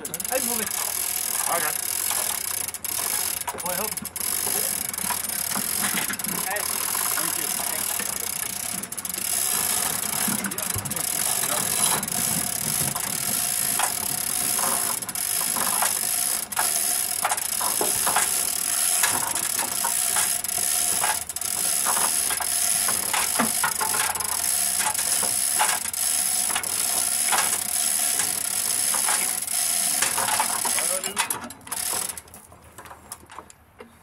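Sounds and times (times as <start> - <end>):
chain hoist clicking and rattling: 0.0 - 33.7.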